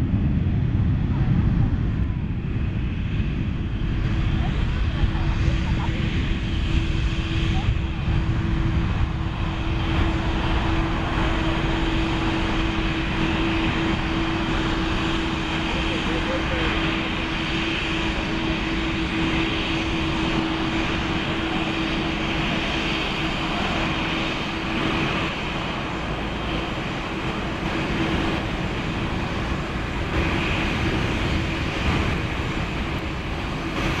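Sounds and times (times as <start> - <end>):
constant low hum: 0.0 - 34.0
jet engines at takeoff: 0.0 - 34.0.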